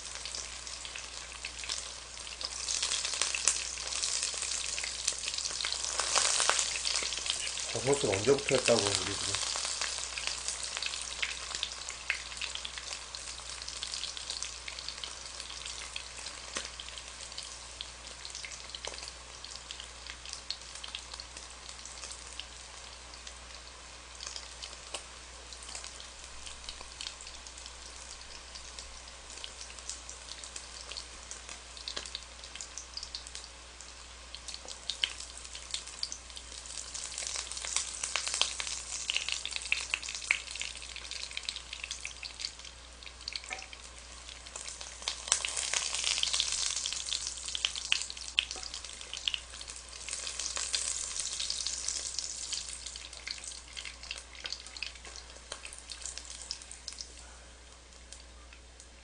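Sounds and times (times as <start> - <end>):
mushrooms sizzling in hot oil: 0.0 - 59.0.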